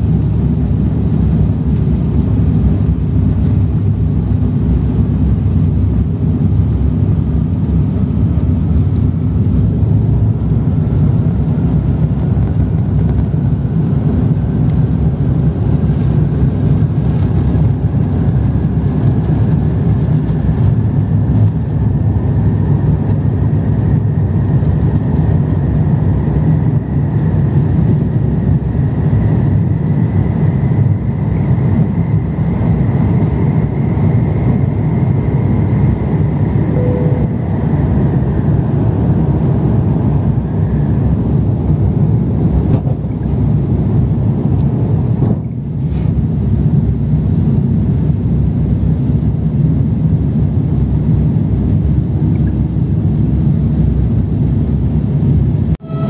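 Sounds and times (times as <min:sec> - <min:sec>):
jet engine rumble and whine: 0:00.0 - 0:56.0.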